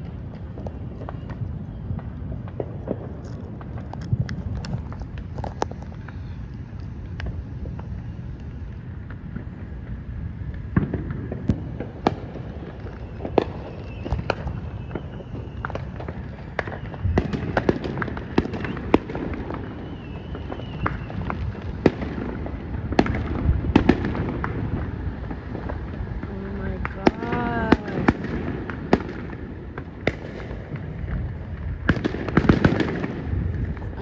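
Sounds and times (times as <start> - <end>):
distant fireworks popping: 0.0 - 34.0.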